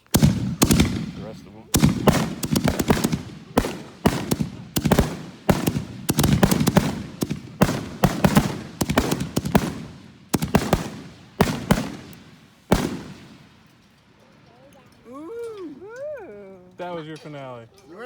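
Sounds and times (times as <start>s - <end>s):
fireworks bursting with crackle: 0.0s - 14.8s.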